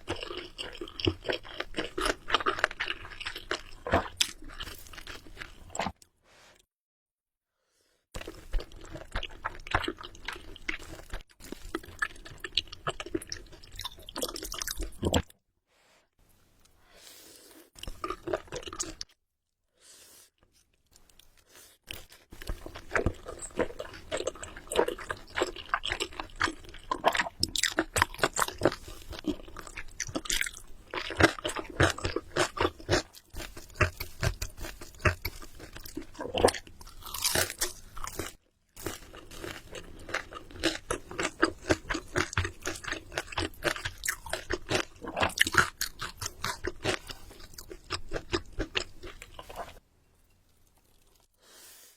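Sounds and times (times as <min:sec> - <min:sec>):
person chewing and crunching food: 0:00.0 - 0:06.2, 0:08.1 - 0:15.4, 0:17.2 - 0:19.2, 0:20.3 - 0:51.9.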